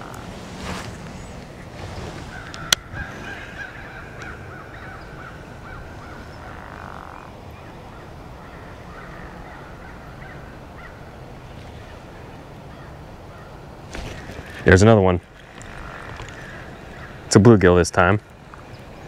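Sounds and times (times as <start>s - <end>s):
wind rumbling on microphone: 0.0s - 17.4s.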